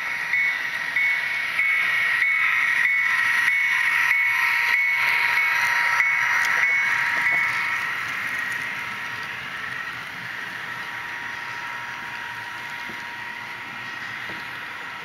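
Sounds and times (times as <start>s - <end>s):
model train cars rolling on track: 0.0s - 15.0s
model train locomotive whine: 0.0s - 15.0s.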